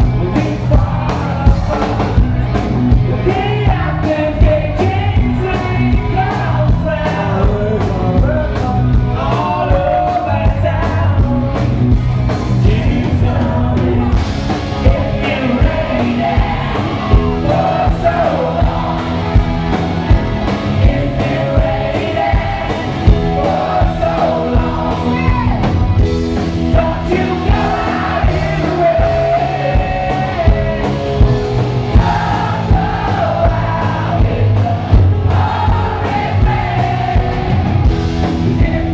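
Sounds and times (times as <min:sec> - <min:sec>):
lead singer singing: 0:00.0 - 0:38.9
live rock band playing: 0:00.0 - 0:38.9.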